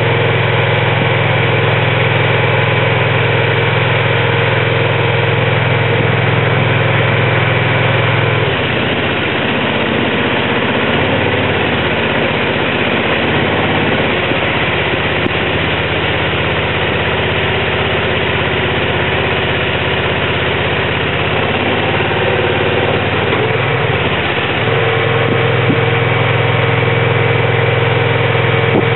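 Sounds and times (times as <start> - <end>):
hydraulic power unit engine running: 0.0 - 28.9.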